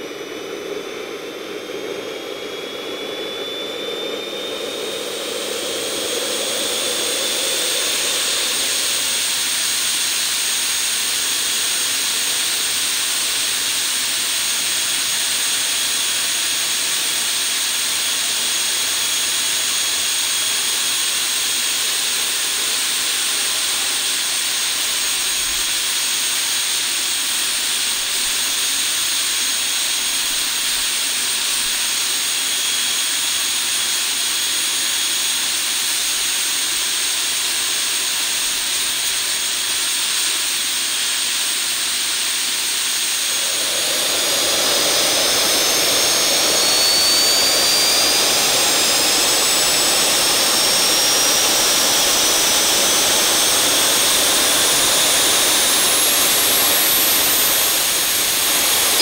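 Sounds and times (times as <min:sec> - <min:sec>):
model gas turbine running: 0:00.0 - 0:59.0.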